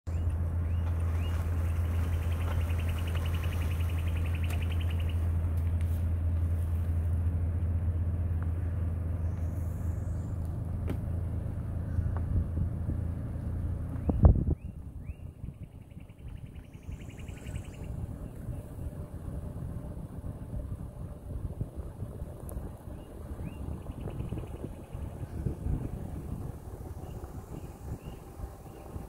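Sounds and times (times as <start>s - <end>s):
car driving rumble: 0.1s - 29.0s.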